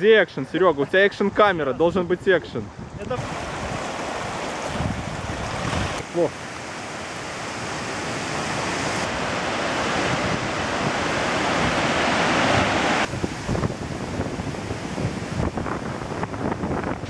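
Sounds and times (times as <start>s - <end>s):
river water rushing and splashing: 2.6s - 17.0s.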